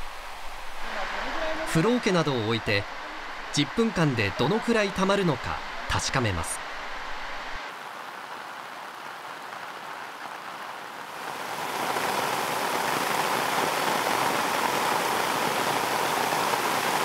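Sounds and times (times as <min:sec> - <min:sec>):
heavy rain pounding pavement: 0:00.0 - 0:17.0.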